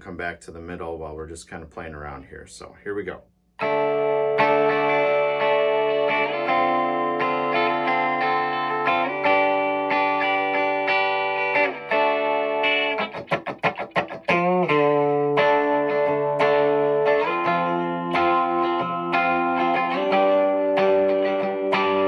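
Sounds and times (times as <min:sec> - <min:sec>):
electric guitar chords with reverb: 0:03.6 - 0:22.0.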